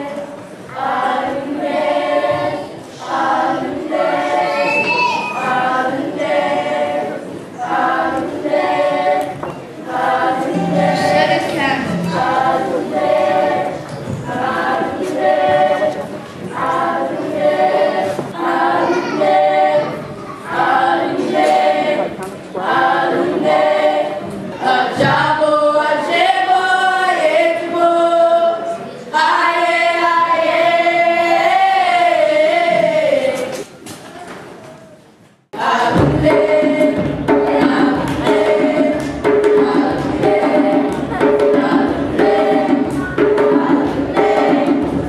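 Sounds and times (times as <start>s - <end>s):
group singing a cappella: 0.0s - 33.8s, 35.5s - 45.0s.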